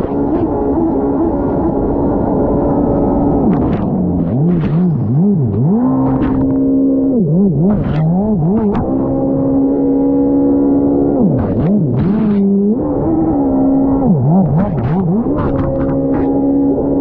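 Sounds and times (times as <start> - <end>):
jet ski engine revving: 0.0 - 17.0
rushes of noise: 0.0 - 17.0.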